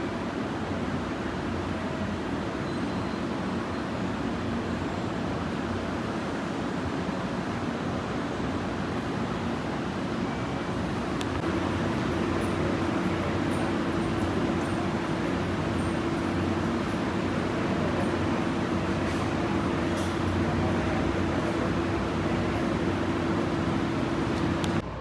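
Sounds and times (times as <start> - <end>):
electric train rumble and hum: 0.0 - 25.0.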